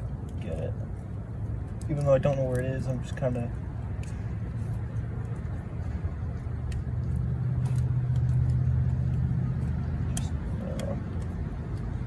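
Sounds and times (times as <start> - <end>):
faint clicks and taps: 0.0 - 12.0
low vehicle engine hum: 0.0 - 12.0.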